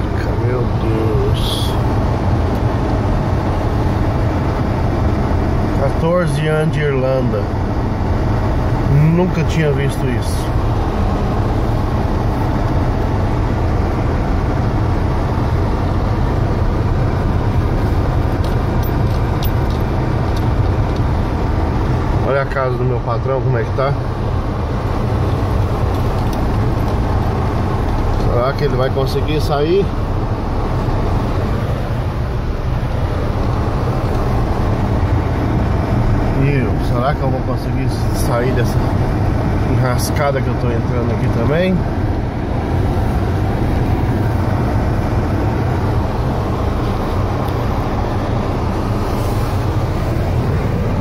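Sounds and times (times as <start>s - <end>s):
car engine and tyres rumbling: 0.0s - 51.0s
road noise: 0.0s - 51.0s.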